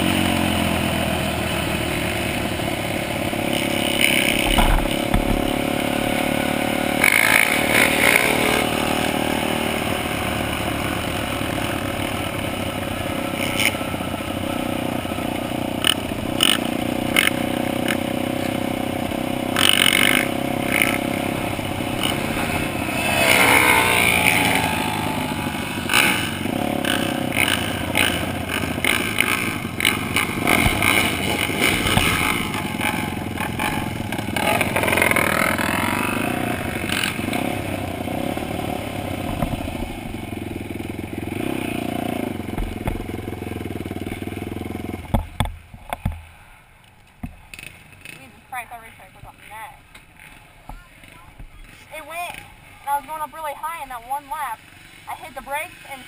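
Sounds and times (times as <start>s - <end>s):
dirt bike engine revving: 0.0s - 46.1s, 47.5s - 56.0s.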